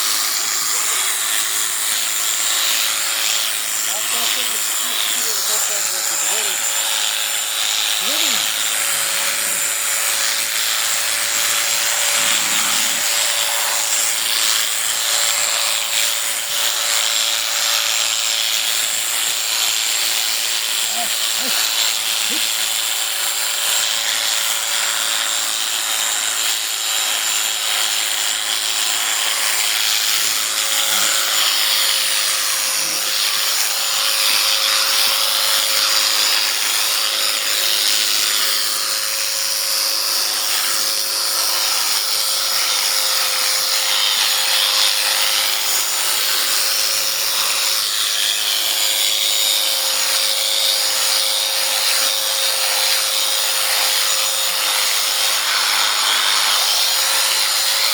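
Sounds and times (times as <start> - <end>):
cutter rasping through fleece: 0.0 - 57.9
electric shearing clippers whine: 0.0 - 57.9.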